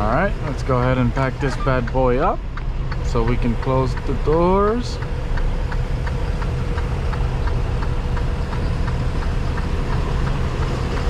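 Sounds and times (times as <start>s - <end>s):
diesel engine idling: 0.0s - 11.0s
light regular ticking: 0.0s - 11.0s.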